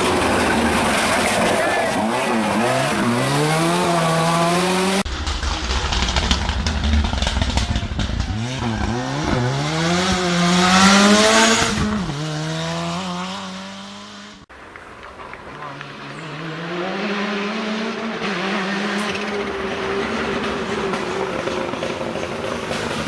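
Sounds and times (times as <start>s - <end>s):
rally car engine revving hard: 0.0s - 5.1s, 5.9s - 14.5s, 15.6s - 23.0s.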